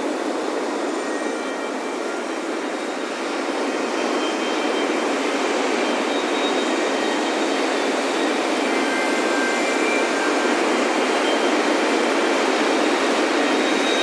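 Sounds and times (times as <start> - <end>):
faint wind chimes: 0.0 - 14.0
ocean surf breaking on beach: 0.0 - 14.0.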